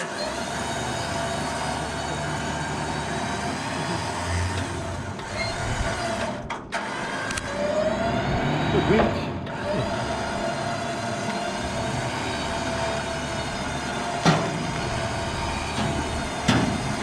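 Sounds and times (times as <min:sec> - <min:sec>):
winch whining under load: 0:00.0 - 0:17.0.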